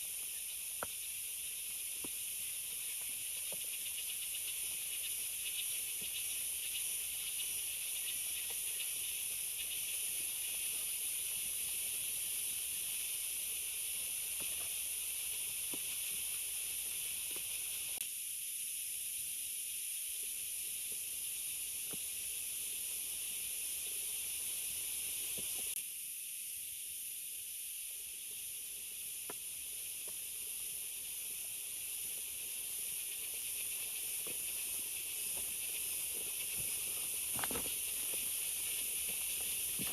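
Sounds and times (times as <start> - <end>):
rain hissing in forest: 0.0 - 39.9.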